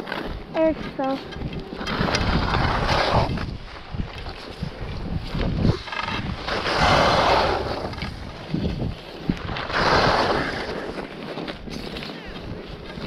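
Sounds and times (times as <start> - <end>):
low rumbling: 0.0 - 12.8
wind buffeting microphone: 0.0 - 13.0.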